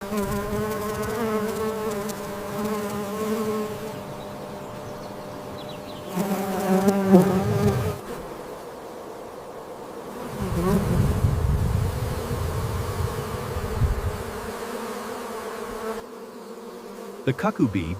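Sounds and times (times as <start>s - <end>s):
honeybee buzzing: 0.0s - 17.9s.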